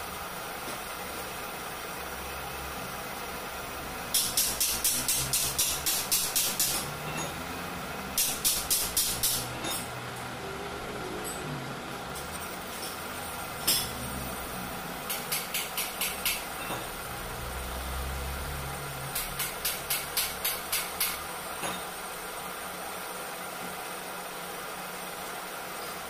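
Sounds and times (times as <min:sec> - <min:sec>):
metal lathe running: 0:01.8 - 0:22.7.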